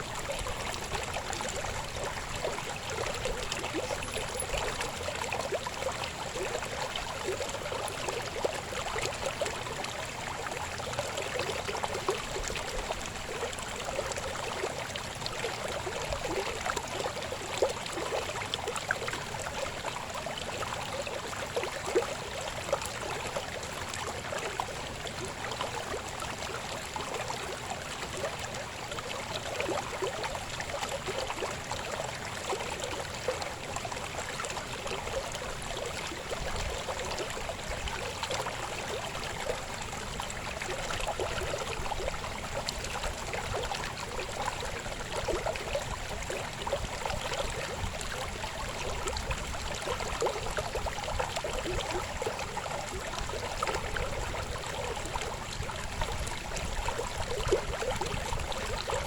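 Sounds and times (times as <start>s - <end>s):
river babbling over stones: 0.0s - 59.0s.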